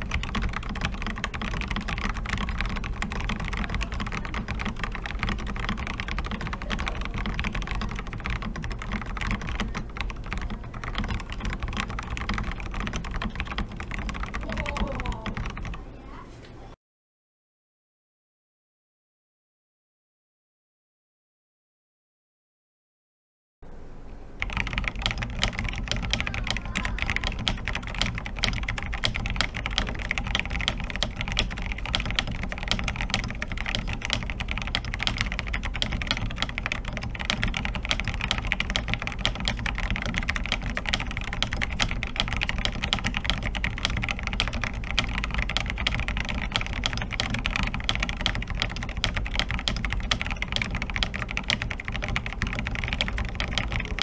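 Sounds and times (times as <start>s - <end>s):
fast typing on mechanical keyboard: 0.0s - 15.8s, 24.4s - 54.0s.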